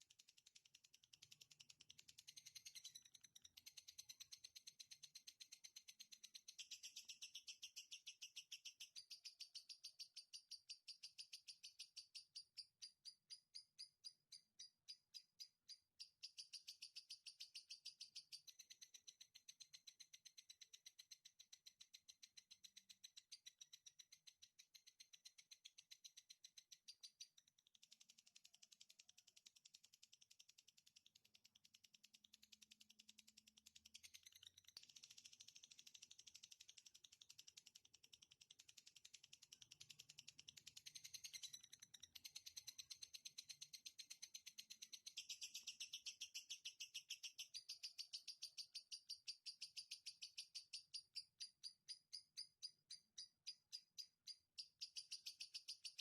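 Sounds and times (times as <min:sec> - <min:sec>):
recorded songbird chirping: 0:00.0 - 0:56.0.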